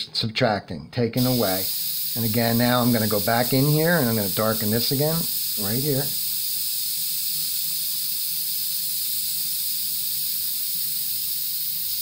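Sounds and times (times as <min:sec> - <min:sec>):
airbrush spraying hiss: 0:01.2 - 0:12.0.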